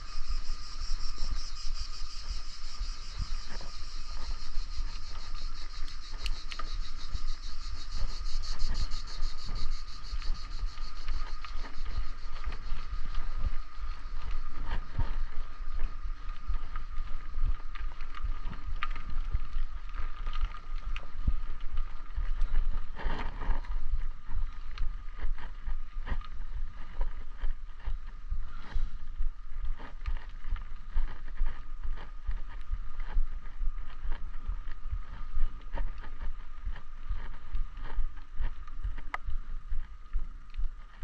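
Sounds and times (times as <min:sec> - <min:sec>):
steady thin whine: 0:00.0 - 0:41.0
wind buffeting microphone: 0:00.0 - 0:41.0.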